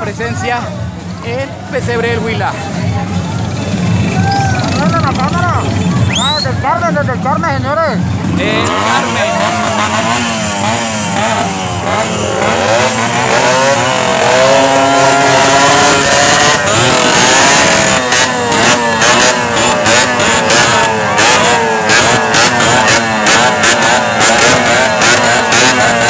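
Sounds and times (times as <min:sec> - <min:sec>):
small motorcycles revving: 0:03.0 - 0:06.5, 0:08.1 - 0:26.0.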